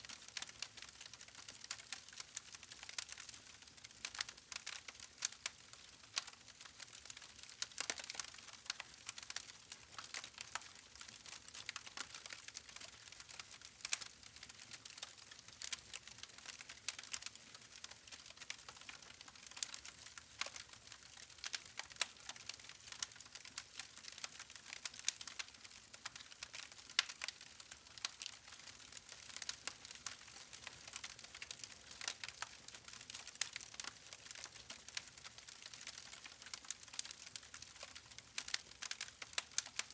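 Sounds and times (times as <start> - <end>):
campfire crackling and popping: 1.8 - 39.9.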